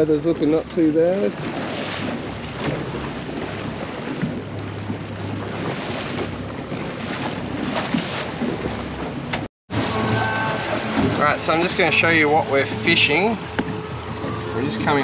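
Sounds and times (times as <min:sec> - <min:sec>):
low engine hum: 0:00.0 - 0:15.0
water rushing along hull: 0:00.0 - 0:15.0.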